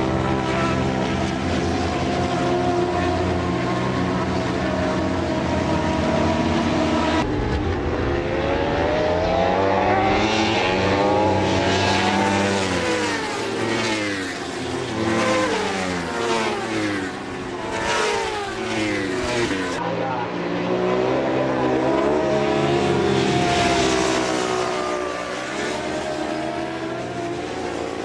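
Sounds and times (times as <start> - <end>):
racing motorcycle engine: 0.0 - 28.0.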